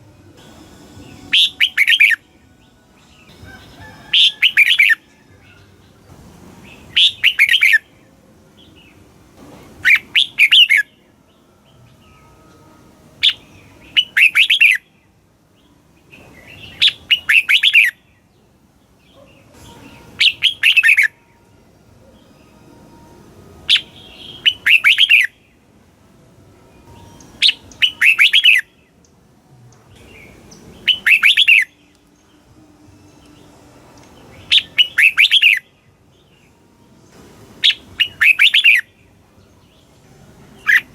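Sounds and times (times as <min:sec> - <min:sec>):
bird singing: 0:00.0 - 0:09.1, 0:09.8 - 0:25.7, 0:26.8 - 0:36.6, 0:37.6 - 0:40.9.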